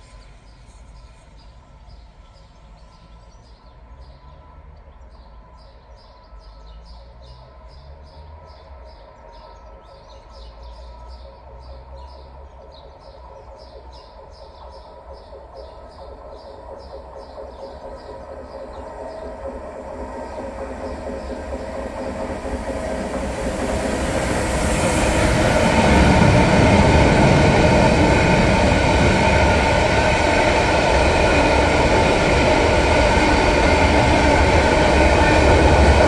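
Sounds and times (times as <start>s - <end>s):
freight train rumble: 0.0s - 36.0s.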